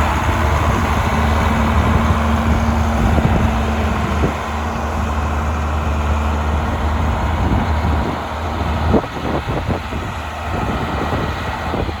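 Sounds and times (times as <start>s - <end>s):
engine running: 0.0s - 12.0s
steady rushing noise: 0.0s - 12.0s.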